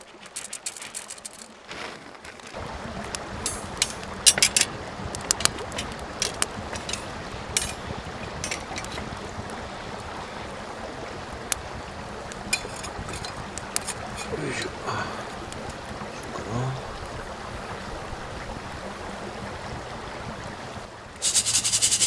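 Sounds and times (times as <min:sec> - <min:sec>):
fire crackling and popping: 0:00.0 - 0:18.8
wood fire burning: 0:00.0 - 0:22.0.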